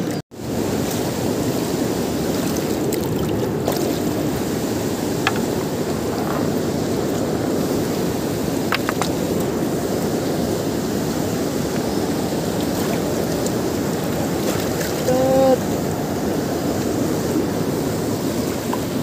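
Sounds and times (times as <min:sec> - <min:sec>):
river rushing over boulders: 0:00.0 - 0:19.0.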